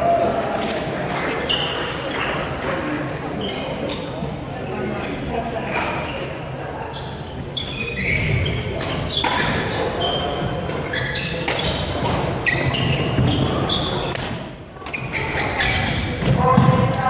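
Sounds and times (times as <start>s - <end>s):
court shoes squeaking: 1.1s - 4.2s, 4.9s - 17.0s.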